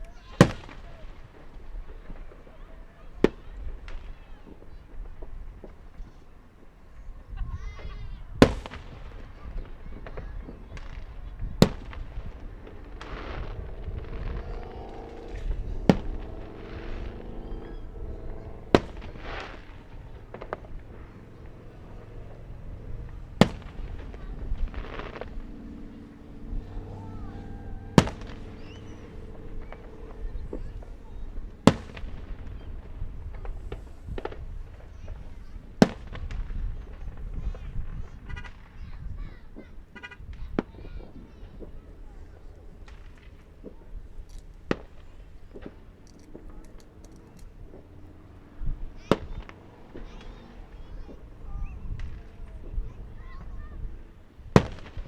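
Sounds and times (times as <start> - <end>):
fireworks booming: 0.0 - 55.0
fireworks popping and crackling: 0.0 - 55.0.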